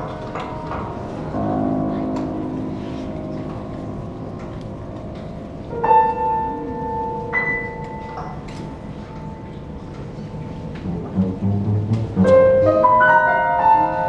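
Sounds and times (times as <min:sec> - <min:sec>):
chamber music: 0:00.0 - 0:14.0.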